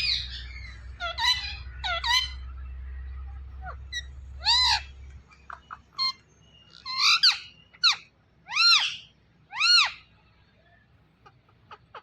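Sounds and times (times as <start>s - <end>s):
parrot squawking and chirping: 0.0s - 10.2s.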